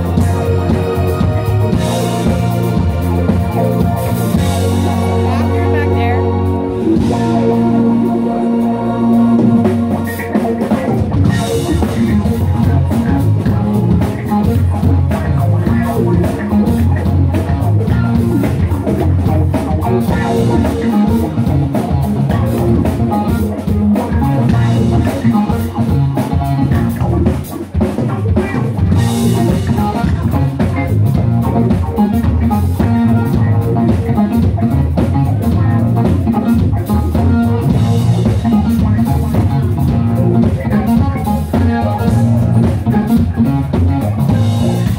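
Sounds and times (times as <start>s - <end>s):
bass guitar: 0.0s - 44.9s
drum kit: 0.0s - 44.9s
electric guitar: 0.0s - 44.9s
keyboard: 0.0s - 44.9s.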